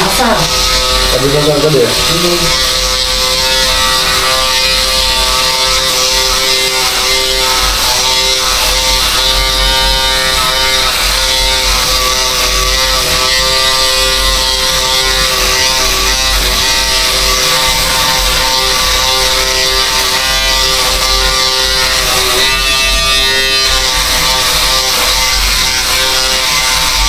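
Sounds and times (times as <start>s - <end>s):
electric hair clipper buzzing: 0.0s - 27.0s.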